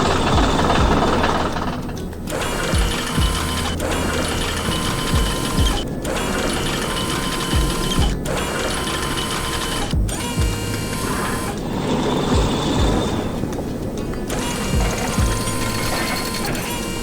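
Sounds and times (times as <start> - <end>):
low thumps: 0.0 - 6.5, 7.4 - 8.6, 9.9 - 16.5
machinery whirring and ratcheting: 0.0 - 17.0.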